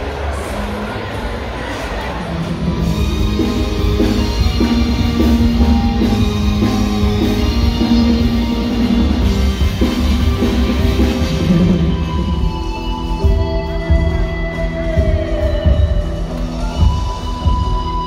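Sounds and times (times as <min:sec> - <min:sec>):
heavy bass: 0:02.2 - 0:18.0
drum kit: 0:02.4 - 0:18.0
keyboard holding notes: 0:02.8 - 0:18.0.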